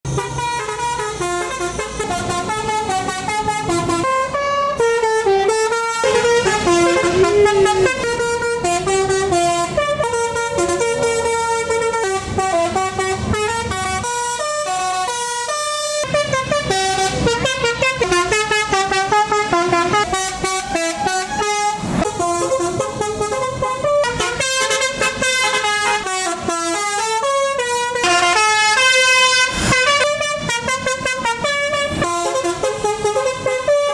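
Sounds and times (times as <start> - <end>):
bus musical horn melody: 0.1 - 33.9.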